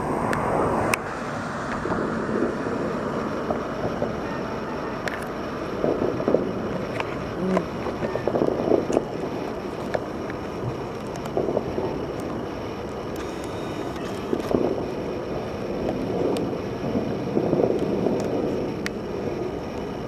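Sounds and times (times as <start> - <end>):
fireworks booming: 0.0 - 20.0
sharp fireworks pops: 0.0 - 20.0
steady background rumble: 0.0 - 20.0.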